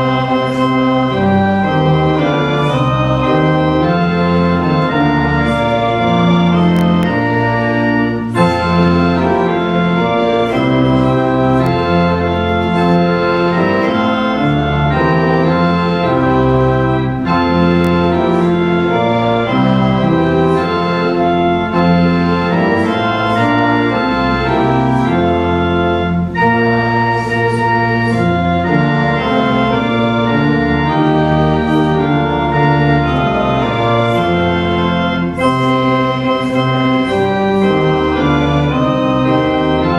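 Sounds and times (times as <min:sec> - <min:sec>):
pipe organ chords: 0:00.0 - 0:39.9.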